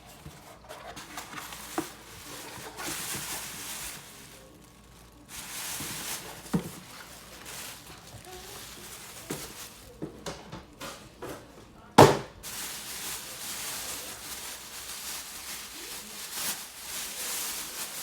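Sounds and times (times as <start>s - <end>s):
packaging rustling and crinkling: 0.0s - 11.0s, 12.4s - 18.0s.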